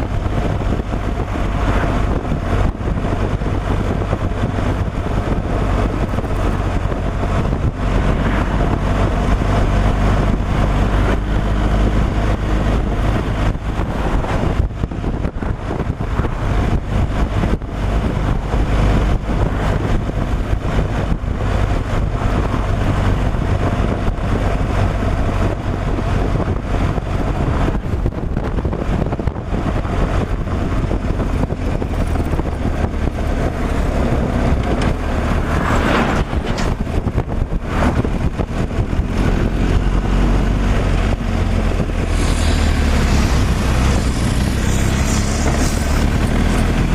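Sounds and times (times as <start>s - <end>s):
diesel engine humming: 0.0s - 46.9s
road and wind noise: 0.0s - 46.9s.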